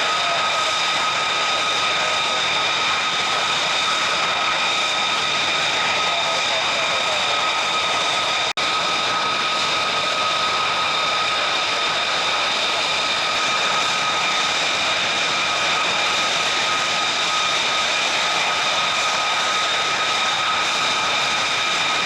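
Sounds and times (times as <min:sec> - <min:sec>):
jet engine rushing and whining: 0:00.0 - 0:22.0.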